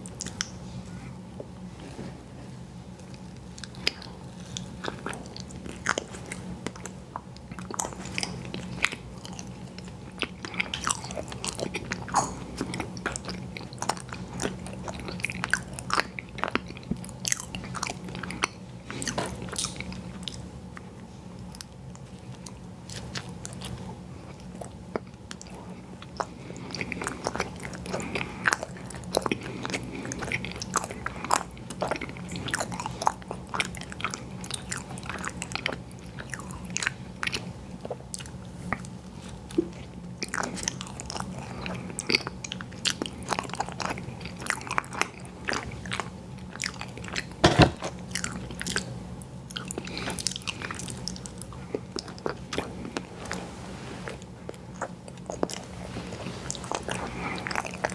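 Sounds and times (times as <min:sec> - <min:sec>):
chewing and crunching sweets: 0:00.0 - 0:57.9
steady low hum: 0:00.0 - 0:57.9.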